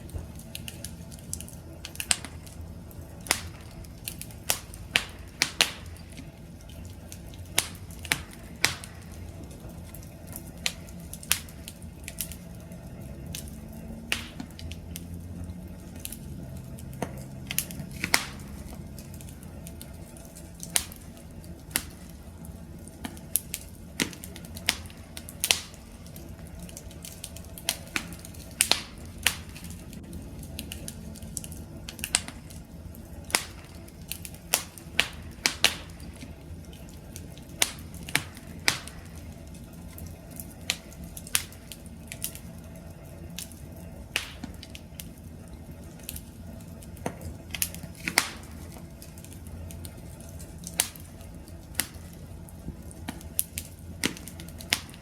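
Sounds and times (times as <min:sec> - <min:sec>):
low rumble of flames: 0:00.0 - 0:55.0
wood fire pops and snaps: 0:00.0 - 0:55.0.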